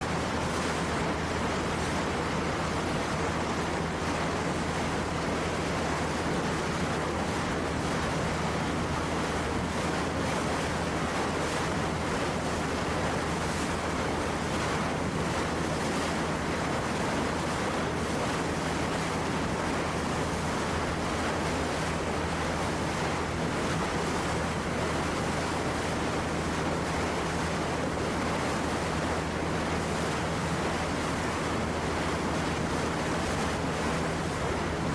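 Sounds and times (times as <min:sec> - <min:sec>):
low constant hum: 0:00.0 - 0:34.9
sea noise: 0:00.0 - 0:34.9
wind: 0:00.0 - 0:34.9.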